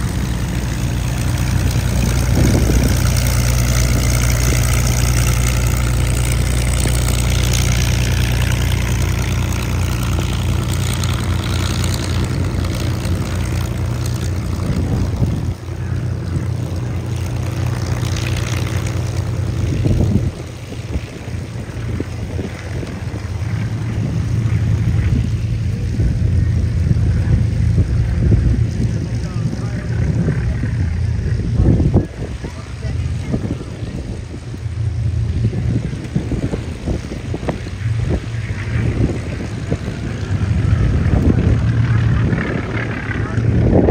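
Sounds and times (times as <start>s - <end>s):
propeller aircraft engine drone: 0.0s - 43.9s.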